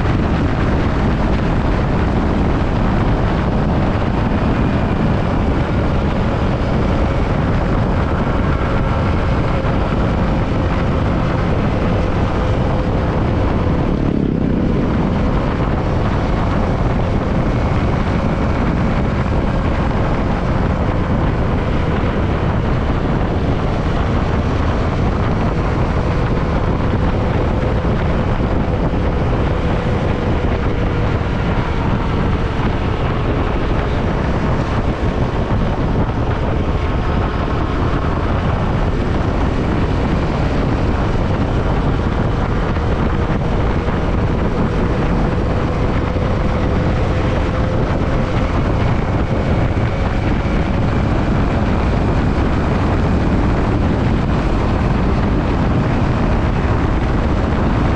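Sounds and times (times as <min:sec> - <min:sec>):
motorcycle engine running: 0:00.0 - 0:57.9
wind rushing over microphone: 0:00.0 - 0:57.9.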